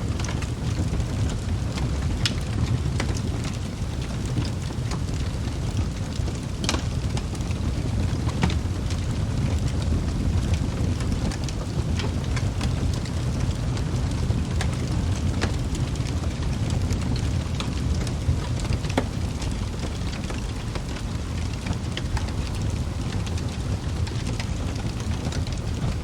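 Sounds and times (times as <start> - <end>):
fire burning with low rumble: 0.0 - 26.0
logs crackling and popping: 0.0 - 26.0.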